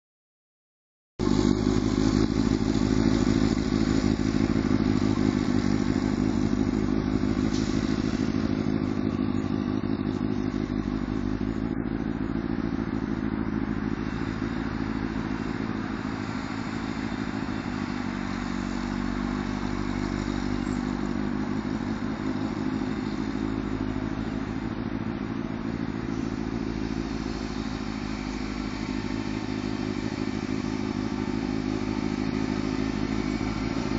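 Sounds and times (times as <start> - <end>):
motorcycle engine running: 1.2 - 33.9.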